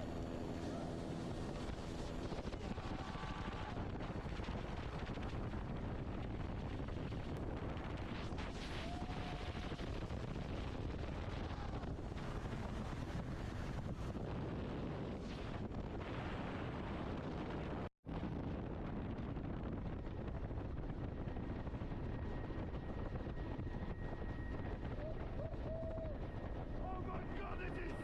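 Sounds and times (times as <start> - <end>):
helicopter rotor noise: 0.0 - 17.8, 18.4 - 28.0
wind buffeting microphone: 0.2 - 27.9.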